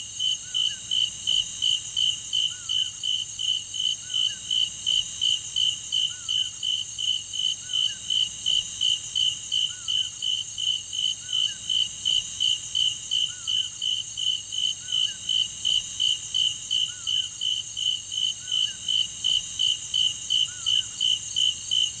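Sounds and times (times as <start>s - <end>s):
cicadas chirping: 0.1s - 22.0s.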